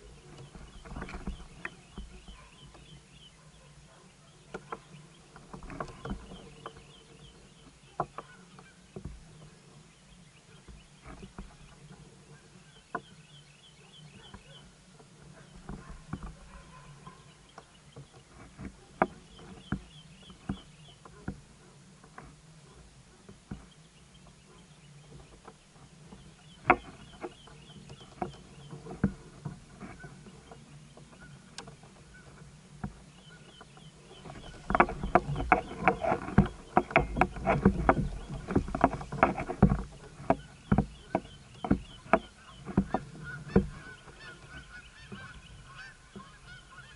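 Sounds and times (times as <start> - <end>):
bird chirping: 0.0 - 22.9, 23.5 - 46.9
kayak and rods knocking: 0.0 - 46.9.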